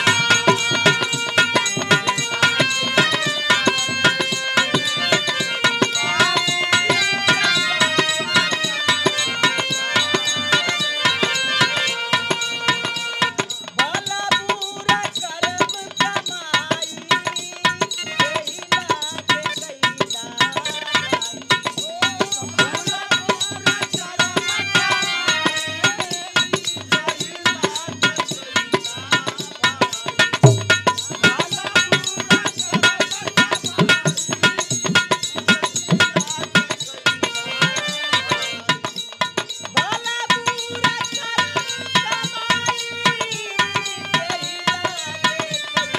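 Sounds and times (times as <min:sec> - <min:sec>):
fast hand drumming: 0:00.0 - 0:45.9
harmonium melody: 0:00.0 - 0:45.9.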